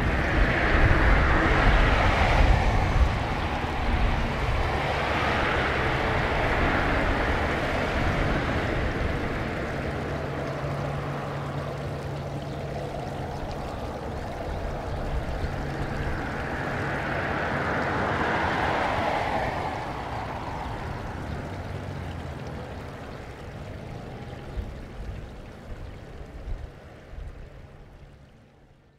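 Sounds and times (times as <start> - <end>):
jet engines roaring: 0.0 - 24.8.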